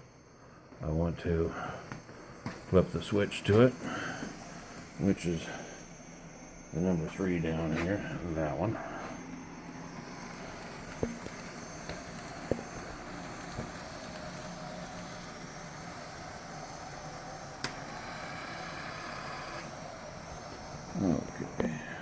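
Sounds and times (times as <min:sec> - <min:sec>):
model train whirring: 0:00.0 - 0:22.0.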